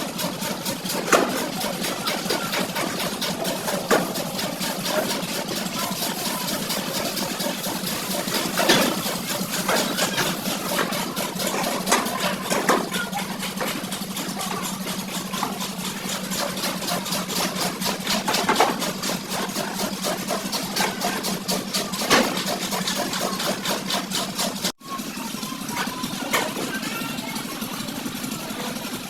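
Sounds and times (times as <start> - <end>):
engine running with fast pulse: 0.0 - 29.0.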